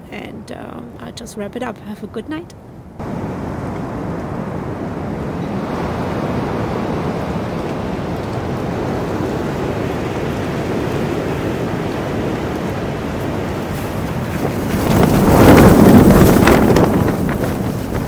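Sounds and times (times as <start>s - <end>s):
storm wind against tent: 2.7s - 18.0s.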